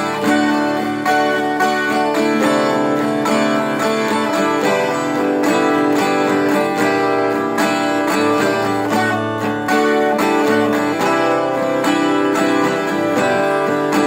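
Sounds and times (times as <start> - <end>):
plucked string instrument tune: 0.0 - 14.0.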